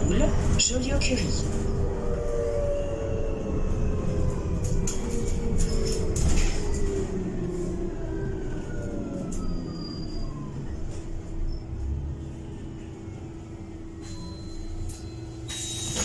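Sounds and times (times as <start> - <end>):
bus engine rumble and whine: 0.0 - 16.0.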